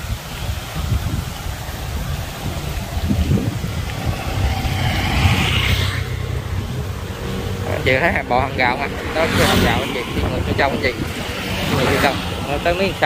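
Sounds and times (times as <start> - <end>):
wind rumbling on microphone: 0.0 - 13.0
motorbike passing: 1.5 - 13.0.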